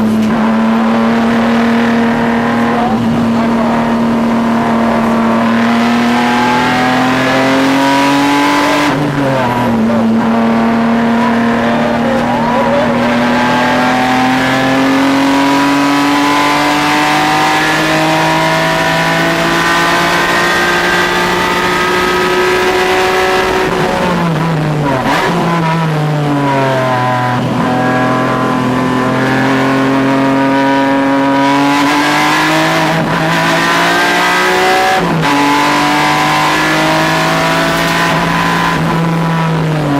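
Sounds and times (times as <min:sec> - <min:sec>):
engine throttle blips: 0:00.0 - 0:39.9
race car engine at high revs: 0:00.0 - 0:39.9.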